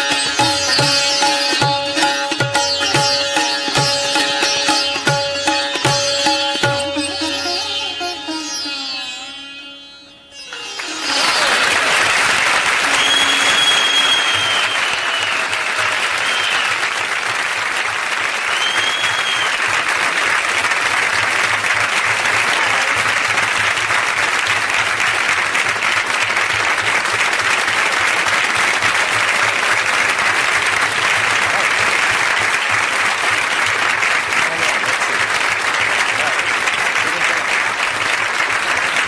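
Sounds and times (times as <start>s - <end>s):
audience applauding: 0.0s - 8.8s, 10.5s - 39.0s.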